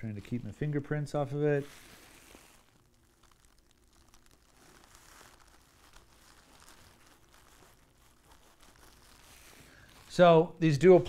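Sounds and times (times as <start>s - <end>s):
nylon fabric crinkling: 0.0s - 11.0s.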